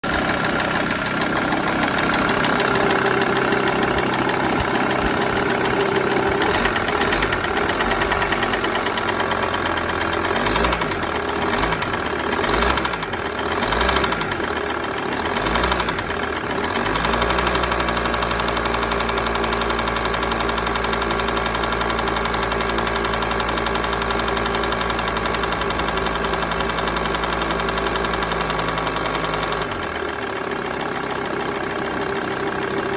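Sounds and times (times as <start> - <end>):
diesel engine running: 0.0 - 32.9
engine ticking noise: 0.0 - 32.9.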